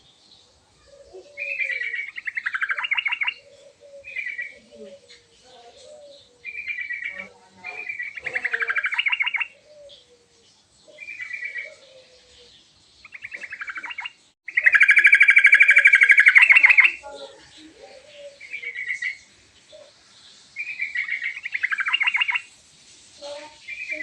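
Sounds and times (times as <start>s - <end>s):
bird singing trilled phrases: 1.3s - 12.0s, 12.6s - 19.9s, 20.6s - 22.5s, 23.2s - 24.0s.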